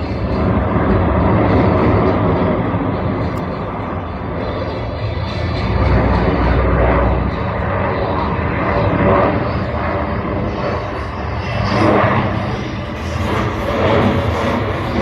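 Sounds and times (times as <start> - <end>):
jet engines in flight: 0.0 - 15.0.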